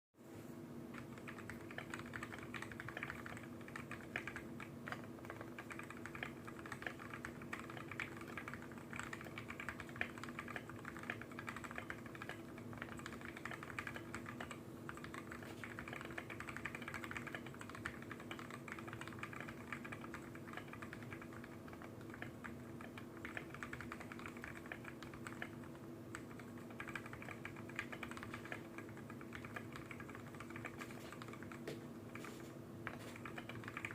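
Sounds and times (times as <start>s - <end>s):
low steady hum: 0.2s - 33.9s
mechanical keyboard typing: 0.9s - 33.9s.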